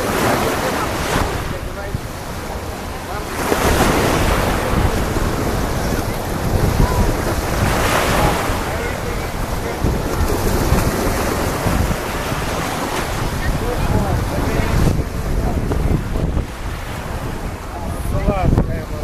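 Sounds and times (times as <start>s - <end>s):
small waves washing up shore: 0.0s - 19.0s
wind buffeting microphone: 0.0s - 19.0s.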